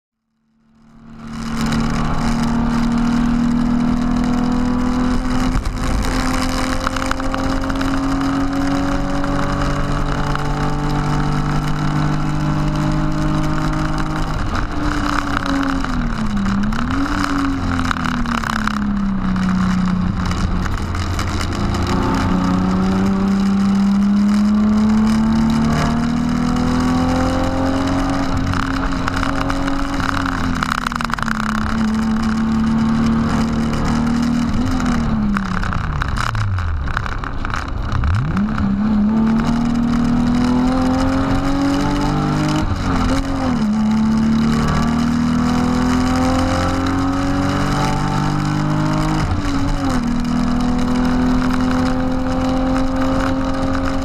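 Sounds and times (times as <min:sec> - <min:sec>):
car engine under hard throttle: 0:00.1 - 0:54.0
wind and road noise: 0:00.1 - 0:54.0.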